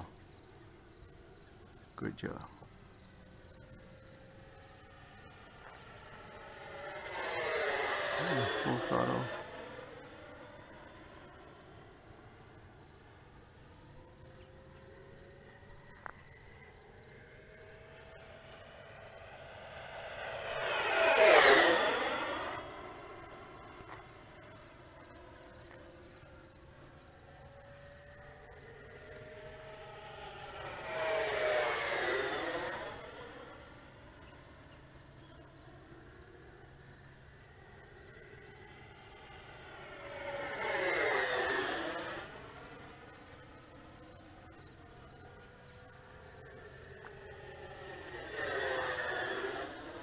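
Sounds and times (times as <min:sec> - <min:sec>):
high insect buzz: 0:00.0 - 0:50.0
model jet whine passing: 0:00.0 - 0:50.0.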